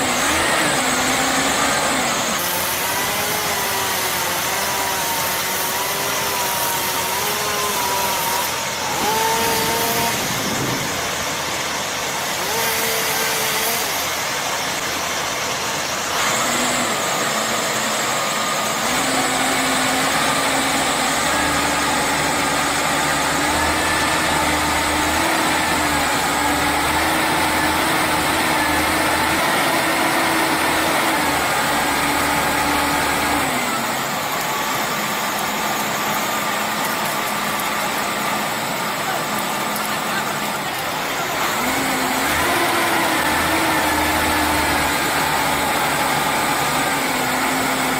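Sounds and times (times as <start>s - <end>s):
motor engine running: 7.1s - 47.9s.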